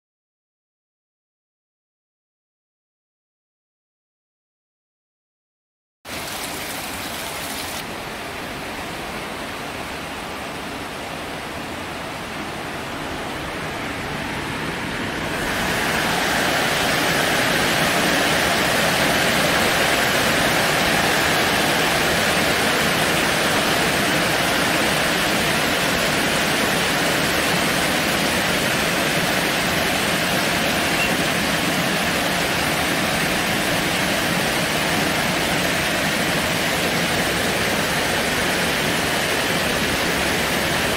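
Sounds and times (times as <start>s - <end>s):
heavy rain pouring: 6.1s - 40.9s.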